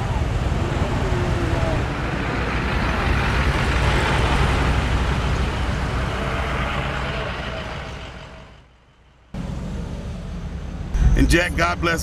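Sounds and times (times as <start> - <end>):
trucks driving slowly past: 0.0 - 12.0
tyre and road noise: 0.0 - 12.0.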